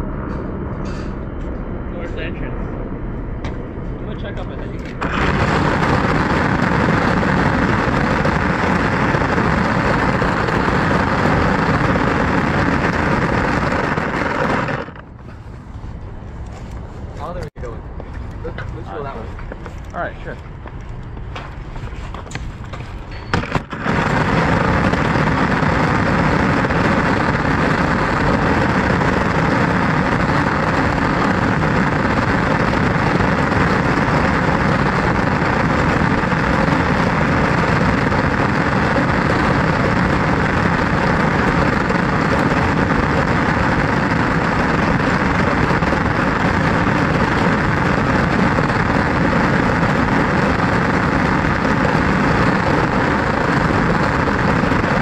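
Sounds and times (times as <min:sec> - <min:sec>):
vehicle running noise: 0:00.0 - 0:55.0.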